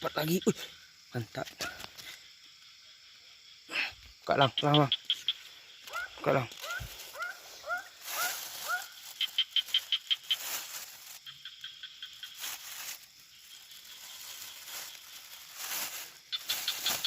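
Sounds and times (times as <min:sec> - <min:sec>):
frogs chirping: 0:00.0 - 0:17.0
high insect trill: 0:00.0 - 0:17.0.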